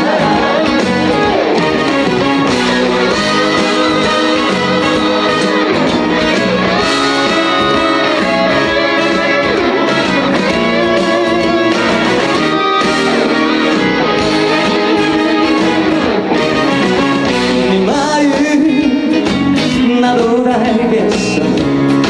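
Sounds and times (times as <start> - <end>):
backing band playing trot music: 0.0 - 22.0.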